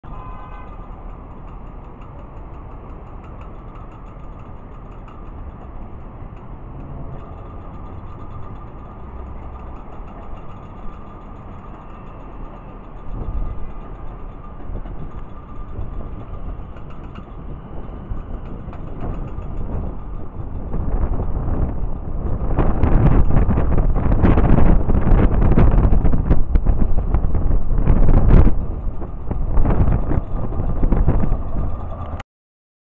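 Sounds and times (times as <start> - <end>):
electric train rumbling: 0.0 - 32.2
wind buffeting microphone: 0.1 - 32.2.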